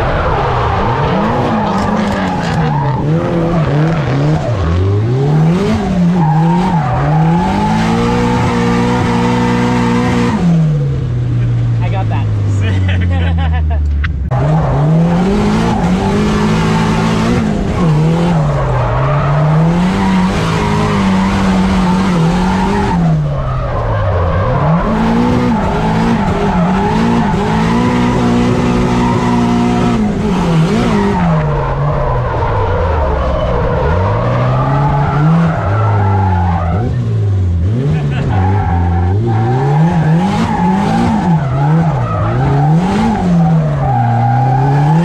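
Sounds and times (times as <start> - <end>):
car engine revving: 0.0 - 45.0
tyres skidding and squealing: 0.0 - 45.0.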